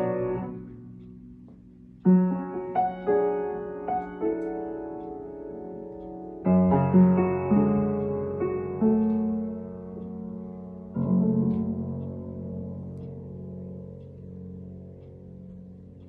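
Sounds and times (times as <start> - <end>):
soft slow piano: 0.0 - 16.0.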